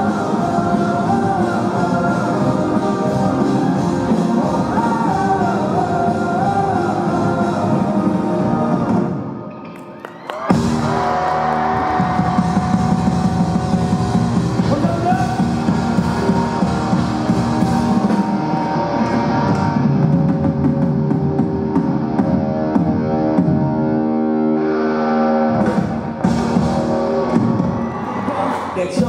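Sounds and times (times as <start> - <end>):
electric bass guitar: 0.0 - 9.1, 10.5 - 28.4
drum kit: 0.0 - 9.2, 10.4 - 23.8, 25.5 - 28.3
electric guitar: 0.0 - 28.7.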